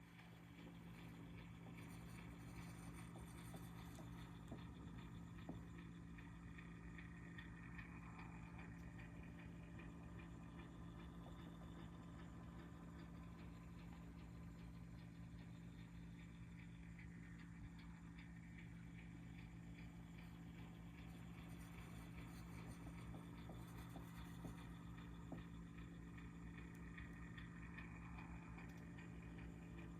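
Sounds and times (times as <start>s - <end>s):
electric heater humming: 0.0s - 29.9s.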